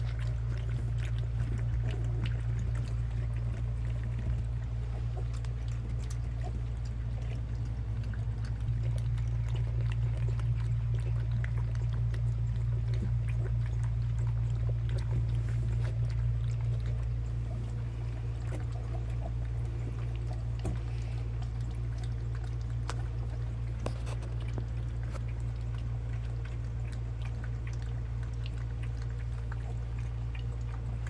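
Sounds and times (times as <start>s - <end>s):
low hum: 0.0s - 31.0s
puppies lapping from a bowl: 0.0s - 31.0s.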